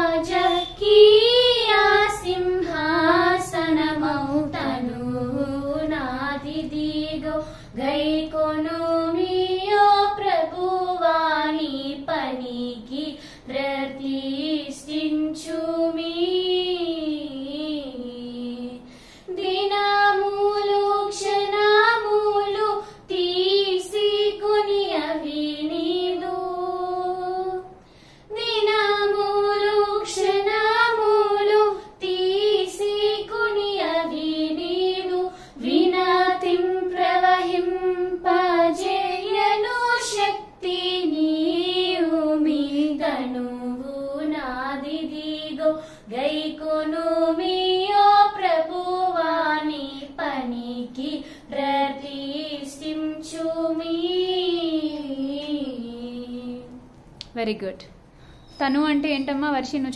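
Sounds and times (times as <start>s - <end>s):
girls singing a hymn in unison: 0.0s - 56.8s.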